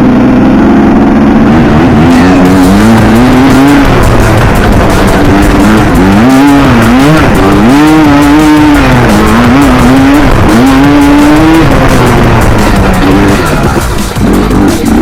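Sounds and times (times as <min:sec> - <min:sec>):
two-stroke quad engine revving: 0:00.0 - 0:15.0.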